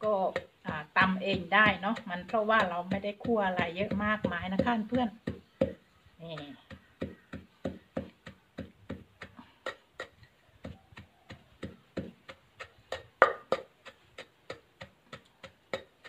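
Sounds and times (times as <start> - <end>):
wooden pestle pounding in mortar: 0.0 - 16.0.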